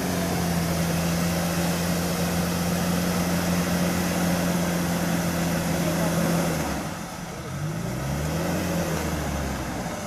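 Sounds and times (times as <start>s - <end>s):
vehicle engine droning: 0.0s - 10.0s.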